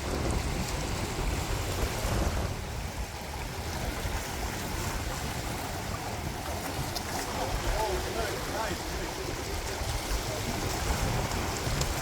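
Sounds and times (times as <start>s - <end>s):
rush of open water: 0.0s - 12.0s
wind buffeting microphone: 0.0s - 12.0s.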